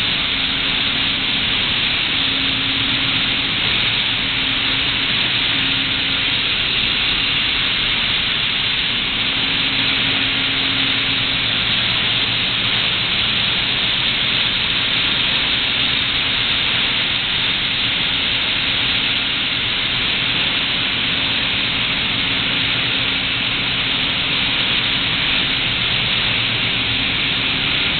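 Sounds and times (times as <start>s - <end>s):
steady rushing hiss: 0.0s - 27.9s.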